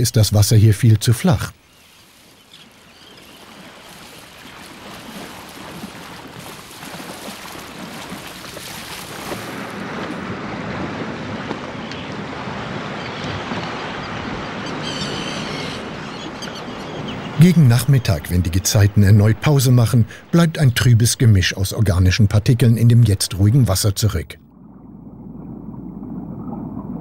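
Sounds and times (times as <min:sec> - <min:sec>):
ocean waves washing: 0:00.0 - 0:27.0
wind: 0:00.0 - 0:27.0.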